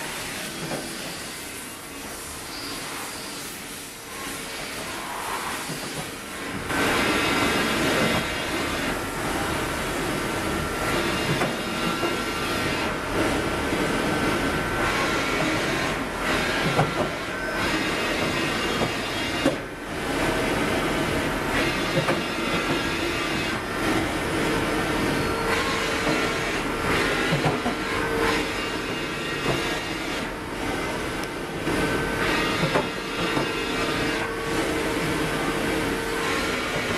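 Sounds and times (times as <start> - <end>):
machining centre mechanical whine: 0.0 - 36.9.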